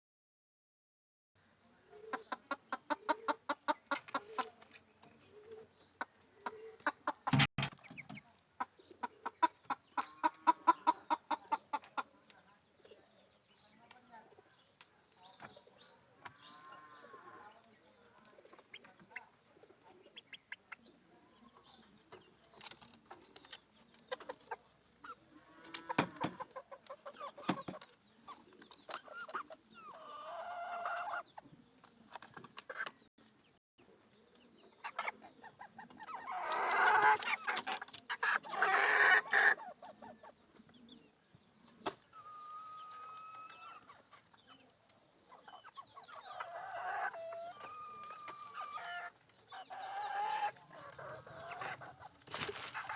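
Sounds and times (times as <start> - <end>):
chickens clucking: 1.6 - 52.9.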